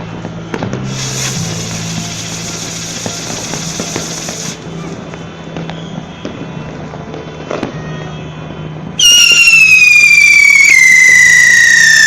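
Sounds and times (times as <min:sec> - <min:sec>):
firework wheel shrill whistle: 0:00.5 - 0:12.0.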